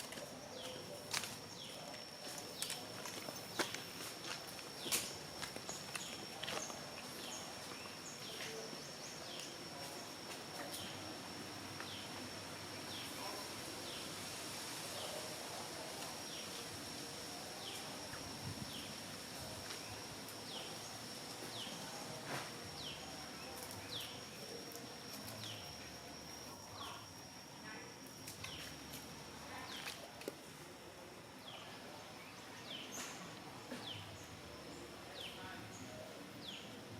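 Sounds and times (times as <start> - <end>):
high-pitched insect drone: 0.0 - 30.1.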